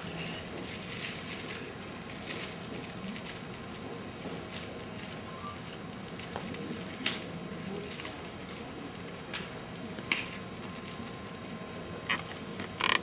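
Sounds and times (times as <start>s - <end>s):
foil paper crinkling and tearing: 0.0s - 13.0s.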